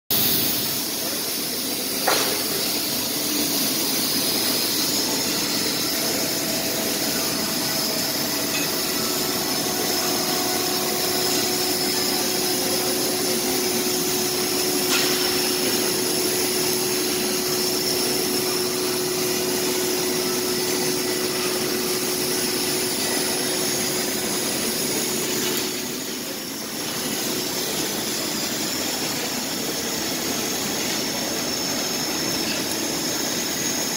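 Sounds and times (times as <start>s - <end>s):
laser cutter hiss and hum: 0.1s - 33.9s.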